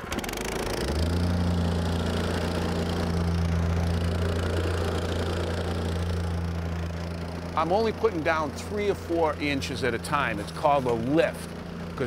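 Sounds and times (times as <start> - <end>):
plate compactor running: 0.0 - 12.0.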